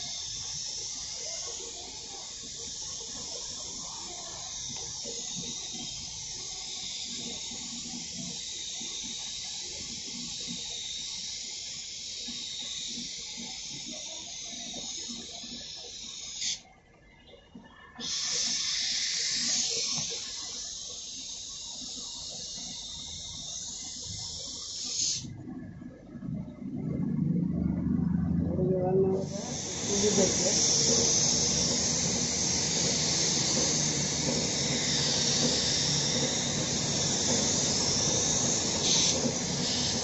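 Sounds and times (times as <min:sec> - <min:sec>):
paint spray gun hissing: 0:00.0 - 0:16.7, 0:18.0 - 0:25.3, 0:29.2 - 0:40.0.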